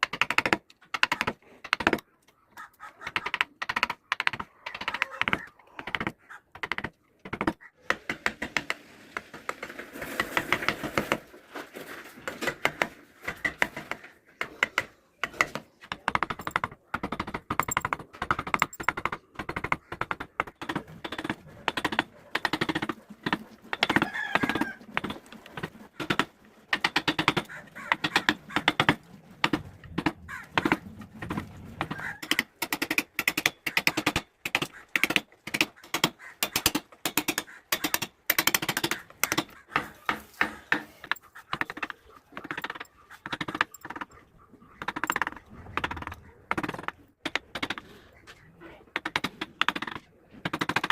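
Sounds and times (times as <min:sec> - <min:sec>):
carving tools cutting wood: 0:00.0 - 0:02.0, 0:03.0 - 0:11.3, 0:12.2 - 0:48.2, 0:48.9 - 0:50.9.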